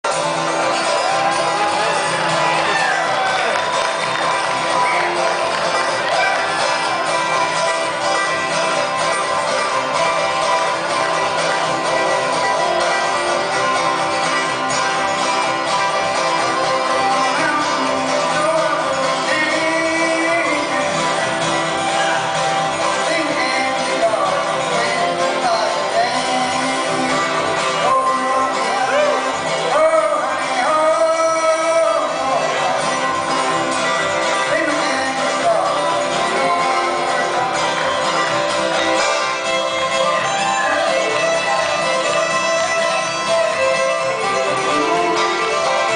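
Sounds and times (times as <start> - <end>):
banjo plucked notes: 0.0 - 45.9
person singing: 0.1 - 45.9.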